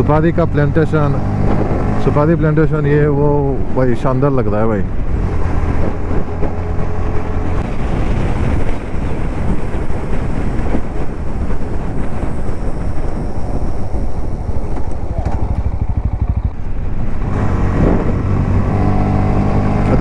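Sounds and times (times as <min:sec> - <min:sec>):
motorcycle engine hum: 0:00.0 - 0:20.0
wind rushing on microphone: 0:00.0 - 0:20.0.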